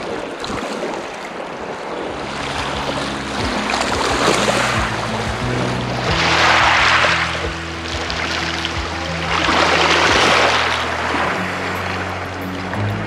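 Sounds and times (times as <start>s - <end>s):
small waves washing onto shore: 0.0s - 13.0s
background music with soft beats: 2.4s - 13.0s.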